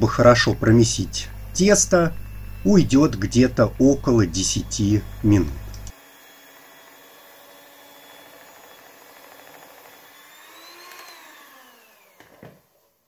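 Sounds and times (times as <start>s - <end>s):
electric hand mixer kneading dough: 0.0s - 13.0s.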